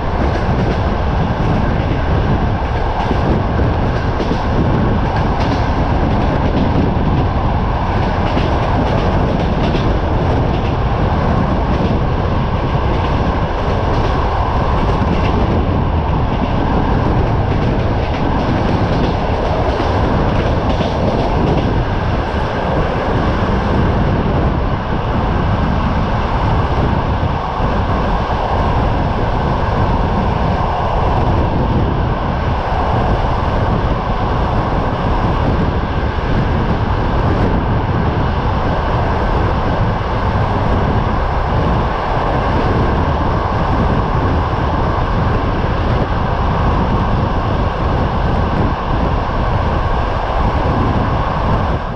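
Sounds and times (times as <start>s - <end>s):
train wheels rumbling: 0.0s - 51.9s
wind buffeting microphone: 0.0s - 51.9s.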